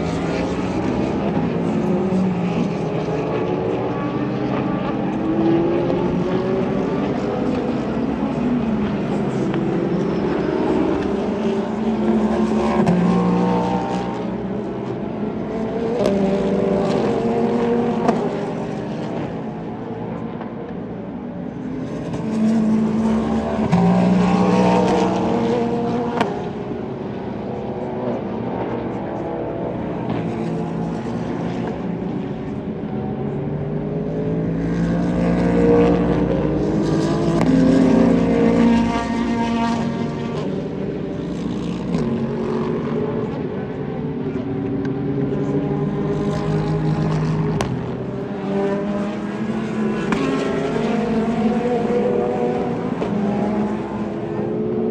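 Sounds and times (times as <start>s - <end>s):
race cars passing: 0.0s - 54.9s.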